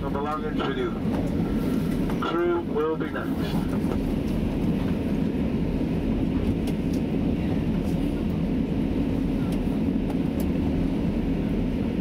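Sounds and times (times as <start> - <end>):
train engine and wheels rumbling: 0.0 - 12.0.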